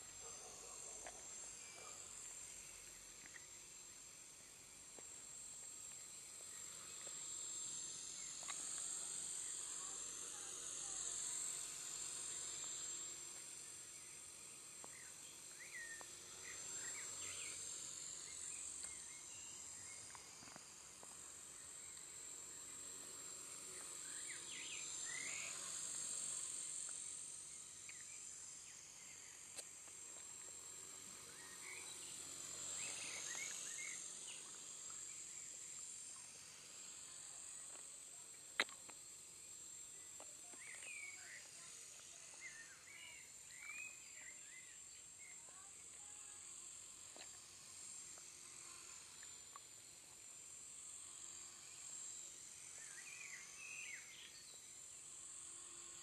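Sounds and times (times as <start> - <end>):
rc helicopter rotor whining: 0.0 - 56.0.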